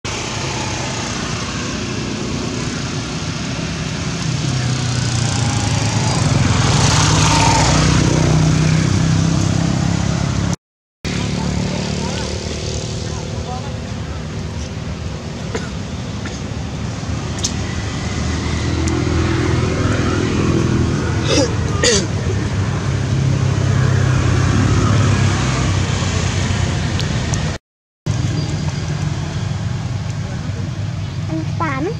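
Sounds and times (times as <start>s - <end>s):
engine humming: 0.1s - 31.9s.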